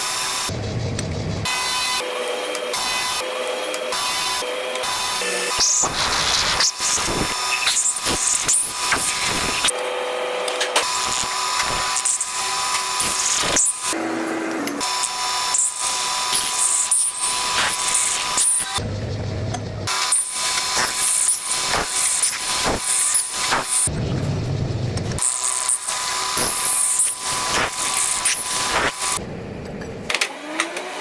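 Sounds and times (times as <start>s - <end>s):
metal lathe cutting metal: 0.0s - 23.9s, 24.9s - 29.2s.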